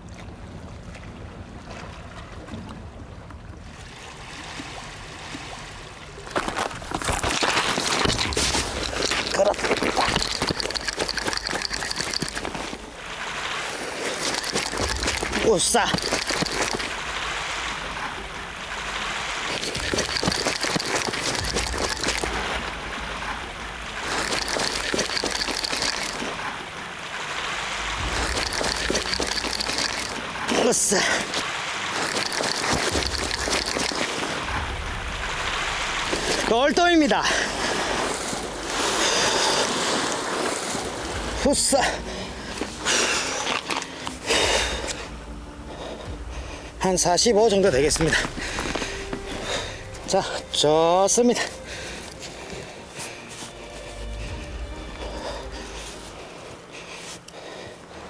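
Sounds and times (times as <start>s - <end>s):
sea water splashing against rocks: 3.7s - 45.1s, 46.5s - 58.0s.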